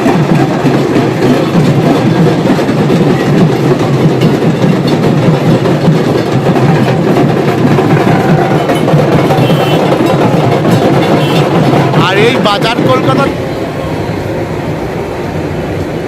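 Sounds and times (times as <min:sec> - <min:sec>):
barrel drums drumming: 0:00.0 - 0:13.4.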